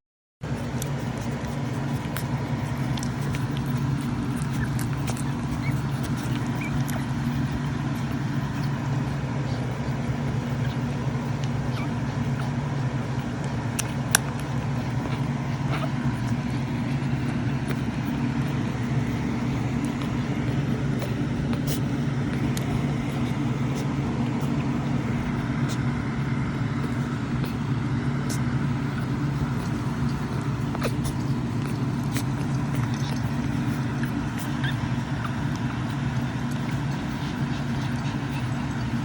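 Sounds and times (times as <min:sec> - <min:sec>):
low mechanical hum: 0:00.4 - 0:39.0.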